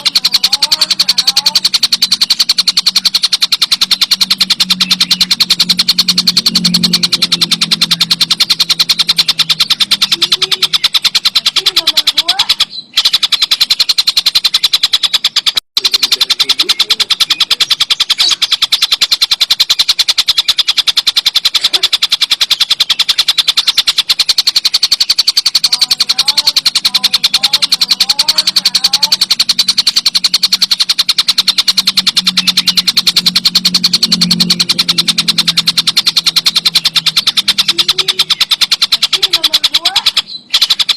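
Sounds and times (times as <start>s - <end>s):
kingfisher rattling trill: 0.0s - 40.9s
low hum: 0.0s - 40.9s.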